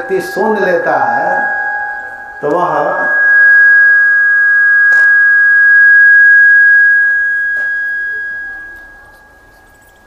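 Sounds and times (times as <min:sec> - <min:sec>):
microphone feedback ringing: 0:00.0 - 0:10.0.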